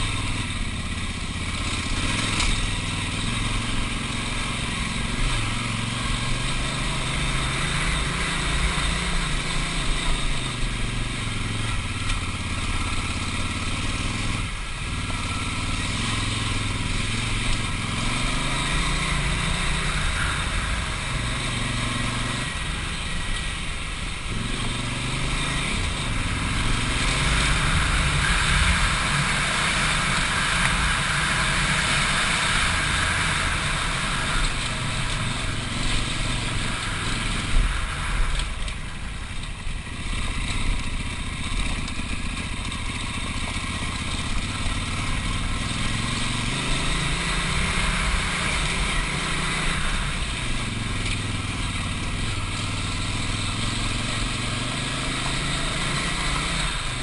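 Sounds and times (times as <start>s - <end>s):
motorcycle engine running: 0.0s - 57.0s
steady rushing hiss: 0.0s - 57.0s.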